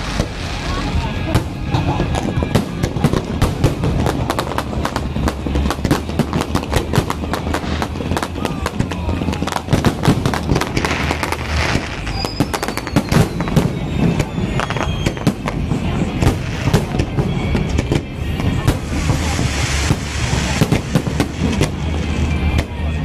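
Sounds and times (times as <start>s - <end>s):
falling whistles of fireworks: 0.0s - 23.0s
fireworks bangs and crackling: 0.0s - 23.0s
music playing: 0.0s - 23.0s.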